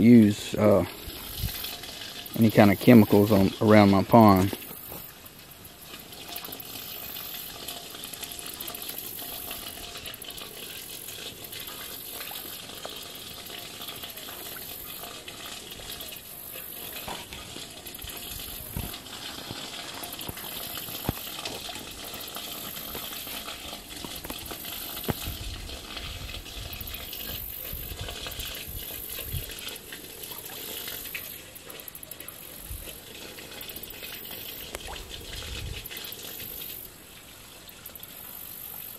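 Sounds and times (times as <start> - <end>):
water washing at pond edge: 0.0 - 38.9.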